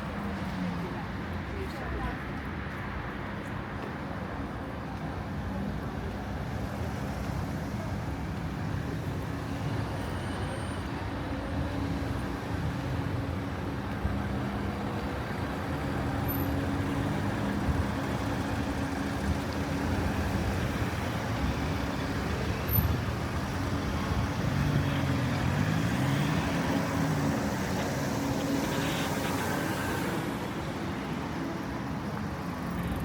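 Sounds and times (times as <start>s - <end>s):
traffic engines rumbling: 0.0s - 33.0s.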